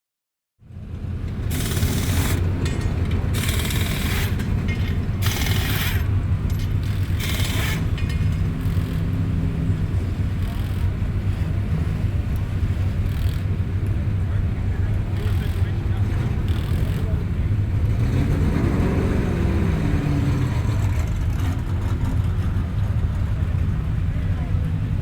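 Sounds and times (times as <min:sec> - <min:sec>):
vehicle engine rumbling: 0:00.6 - 0:25.0.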